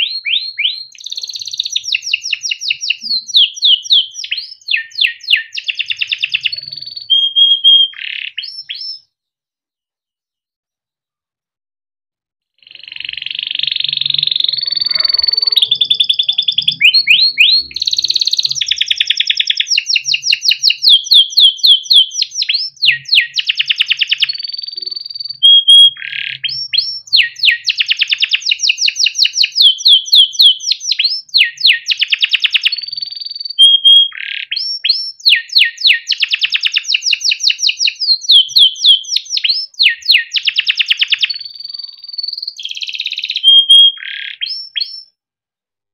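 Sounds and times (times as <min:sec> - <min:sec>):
canary singing trills: 0:00.0 - 0:09.1, 0:12.6 - 0:45.2.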